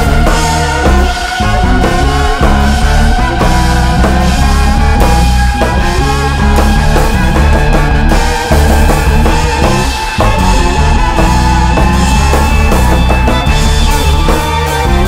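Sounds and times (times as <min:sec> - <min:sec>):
instrumental band playing: 0:00.0 - 0:15.0.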